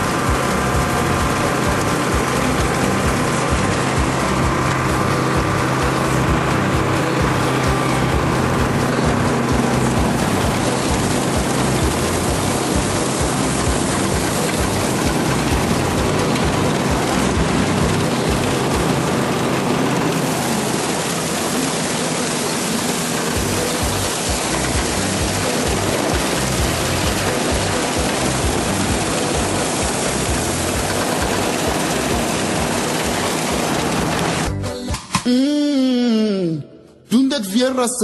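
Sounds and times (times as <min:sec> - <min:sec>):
combine harvester running: 0:00.0 - 0:35.2.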